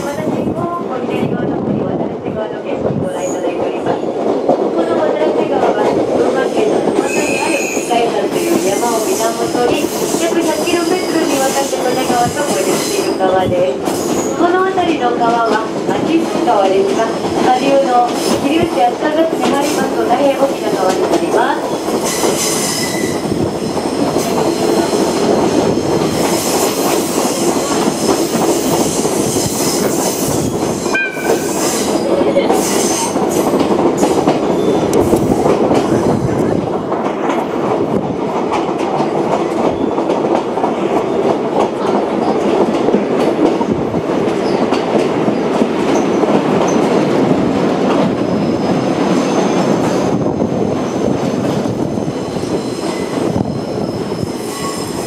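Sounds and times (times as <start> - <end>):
steel wheels rumbling on rails: 0.0 - 55.0.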